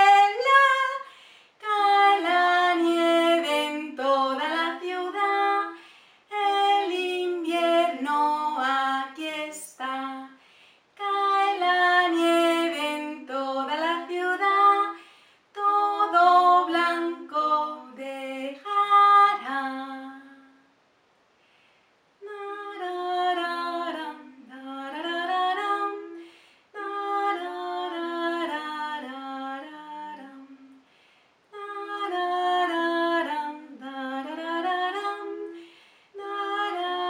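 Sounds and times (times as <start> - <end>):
woman singing unaccompanied: 0.0 - 10.4, 11.0 - 20.7, 22.2 - 30.8, 31.5 - 37.0.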